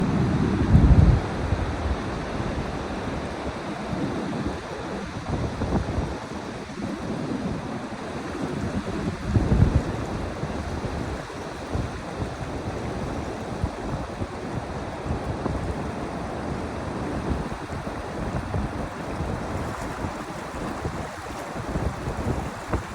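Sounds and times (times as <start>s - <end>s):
ocean surf washing on beach: 0.0s - 22.9s
wind gusting on microphone: 0.0s - 22.9s.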